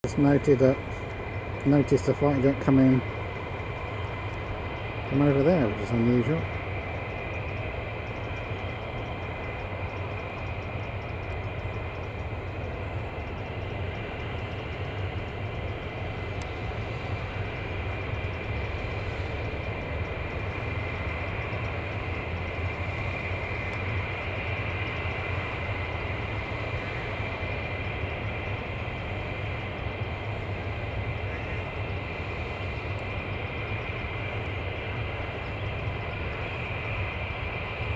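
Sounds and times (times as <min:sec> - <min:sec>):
jet engines whining and rumbling: 0:00.0 - 0:37.9.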